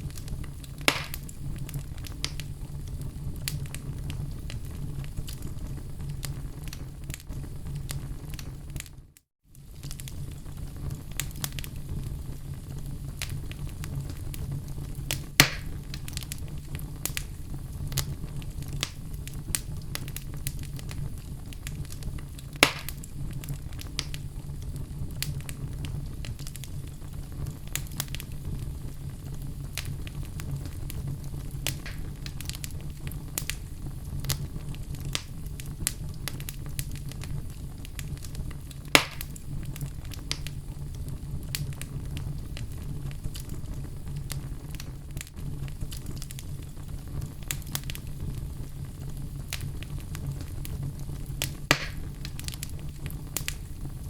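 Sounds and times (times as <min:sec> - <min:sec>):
fire crackling: 0:00.0 - 0:54.0
loud fire pops: 0:00.0 - 0:54.0.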